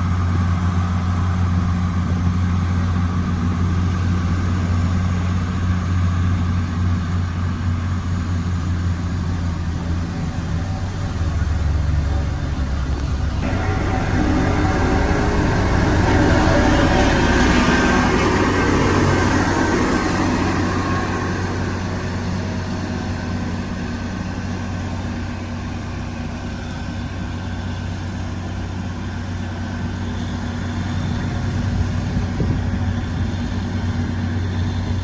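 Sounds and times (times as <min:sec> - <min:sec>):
diesel engine humming: 0:00.0 - 0:35.0.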